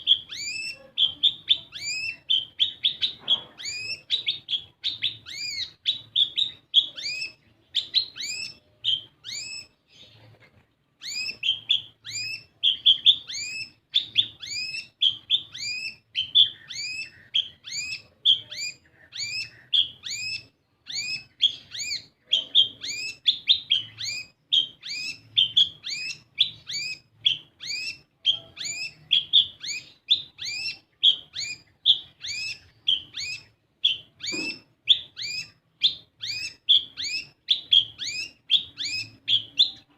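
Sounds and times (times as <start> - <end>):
sunbird chirping: 0.0 - 10.3, 11.0 - 39.9.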